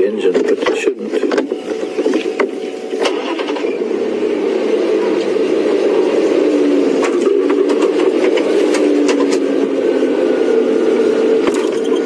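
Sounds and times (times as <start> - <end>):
vehicle engine starting and running: 0.0 - 12.0.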